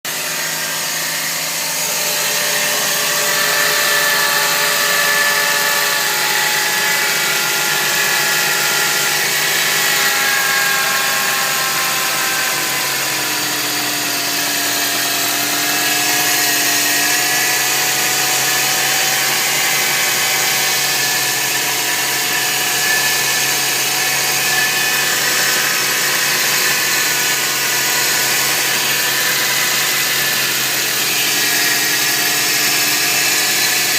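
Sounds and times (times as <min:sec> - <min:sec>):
whining tones drifting in pitch: 0:00.1 - 0:33.9.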